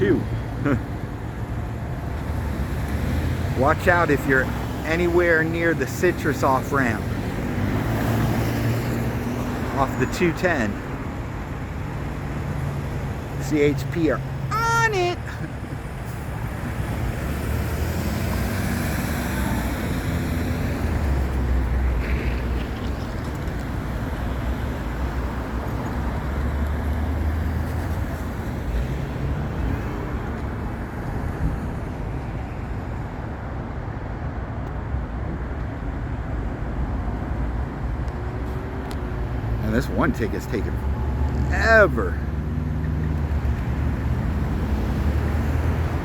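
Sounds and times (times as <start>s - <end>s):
freeway traffic: 0.0s - 46.0s.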